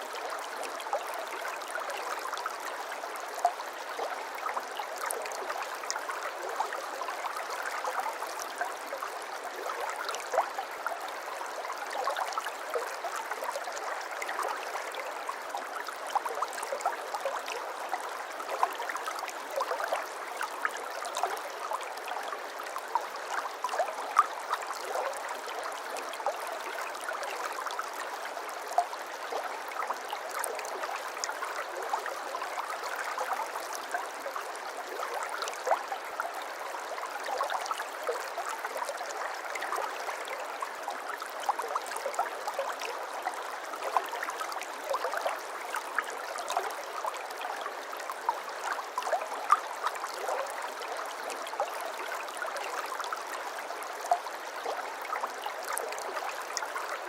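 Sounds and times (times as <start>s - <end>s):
shallow stream babbling: 0.0s - 57.0s.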